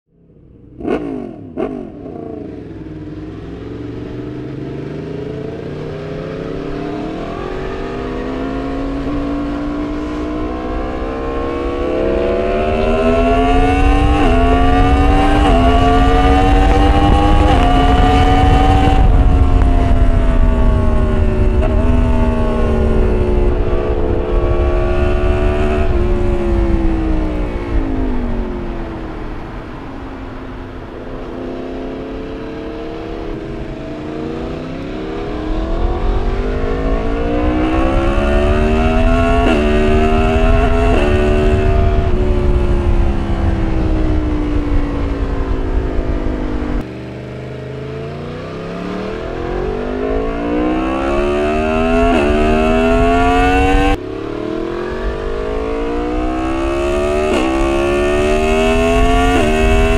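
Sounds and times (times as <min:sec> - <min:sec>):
motorcycle engine revving: 0:00.1 - 0:59.9
wind noise: 0:03.2 - 0:47.0, 0:48.0 - 0:59.9.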